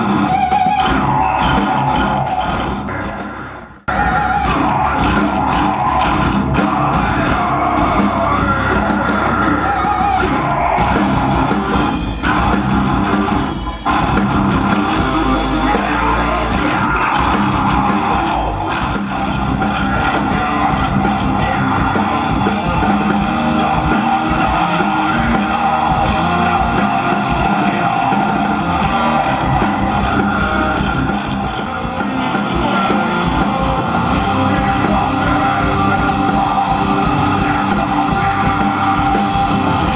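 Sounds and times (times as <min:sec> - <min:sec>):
distorted electric guitars: 0:00.0 - 0:39.9
drums: 0:00.0 - 0:39.9.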